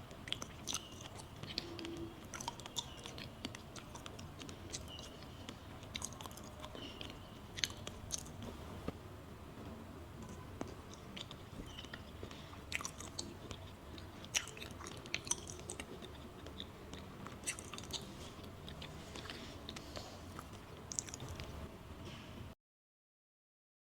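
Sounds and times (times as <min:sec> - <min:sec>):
wet chewing mouth clicks: 0:00.1 - 0:08.6, 0:10.2 - 0:21.6.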